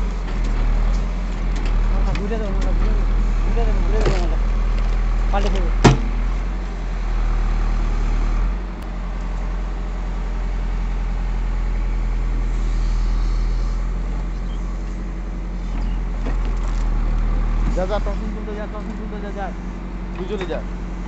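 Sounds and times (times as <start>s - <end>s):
digger diesel engine running: 0.0s - 21.0s.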